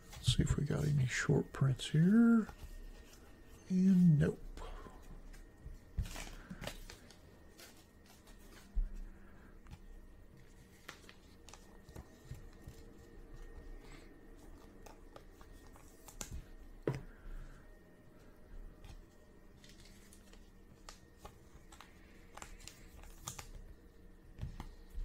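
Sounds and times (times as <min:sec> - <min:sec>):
trading cards rustling and clicking: 0:00.0 - 0:17.2, 0:18.7 - 0:25.0.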